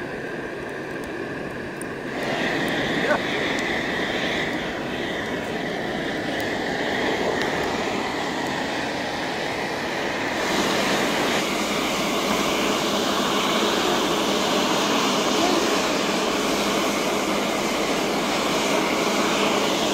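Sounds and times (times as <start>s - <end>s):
forge air blast hissing: 0.0s - 19.9s
hairdryer motor whine: 0.0s - 19.9s.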